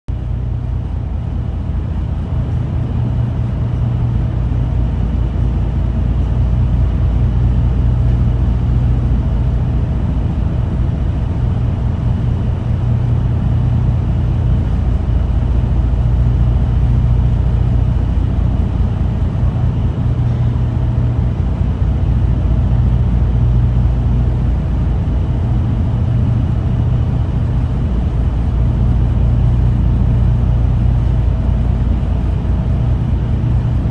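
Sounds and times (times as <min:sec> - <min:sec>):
ferry engines droning: 0:00.1 - 0:33.9.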